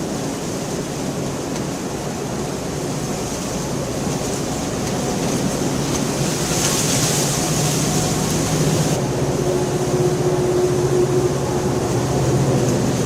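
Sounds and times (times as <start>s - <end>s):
low continuous rumble: 0.0s - 13.0s
rain hissing: 0.0s - 13.0s.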